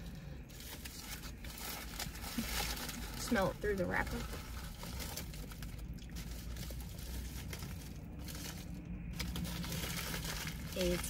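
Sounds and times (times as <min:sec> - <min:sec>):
foil wrapper crinkling: 0:00.5 - 0:11.0.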